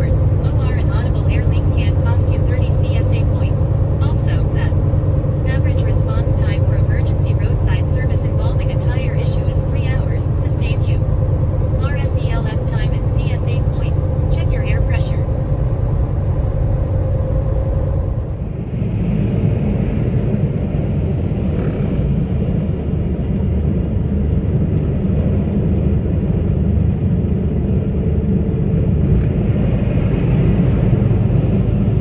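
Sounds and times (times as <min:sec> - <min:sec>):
truck engine and road rumble: 0:00.0 - 0:32.0.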